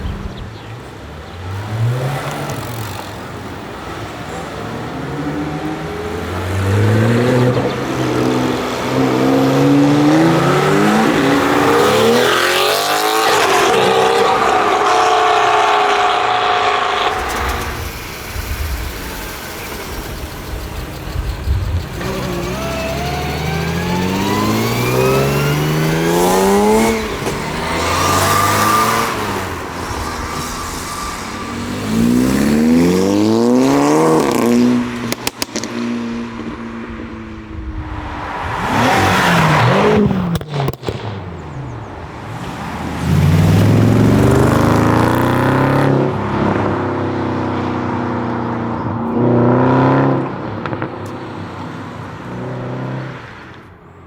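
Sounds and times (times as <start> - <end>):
car engines accelerating hard: 0.0 - 53.8
car rushing by: 0.0 - 53.9.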